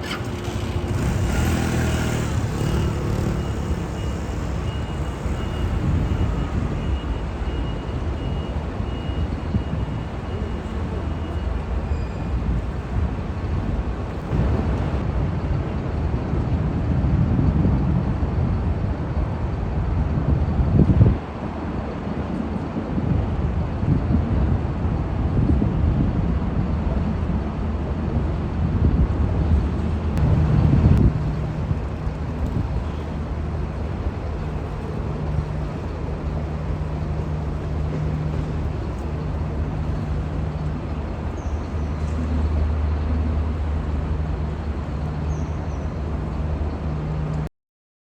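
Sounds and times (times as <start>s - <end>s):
heavy vehicle engines rumbling: 0.0s - 47.5s.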